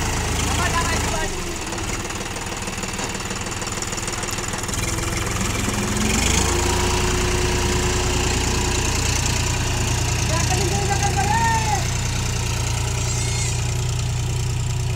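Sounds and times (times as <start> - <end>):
tractor diesel engine under load: 0.0 - 14.9.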